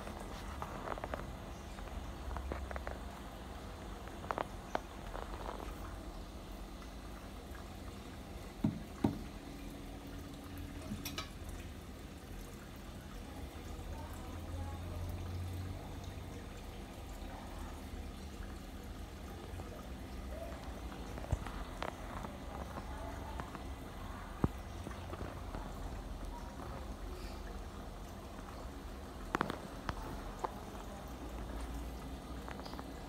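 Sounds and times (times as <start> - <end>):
aquarium filter humming: 0.0 - 33.0
trickling water: 0.0 - 33.0.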